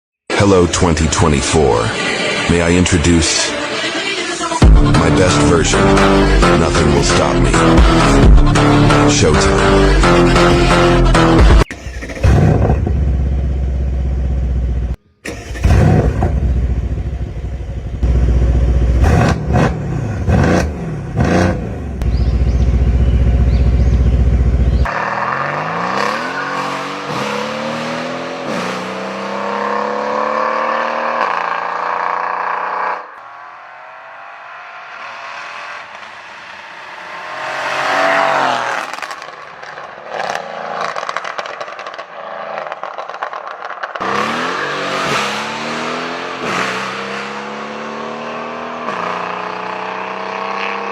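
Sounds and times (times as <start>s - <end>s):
car engine revving: 0.3s - 50.9s.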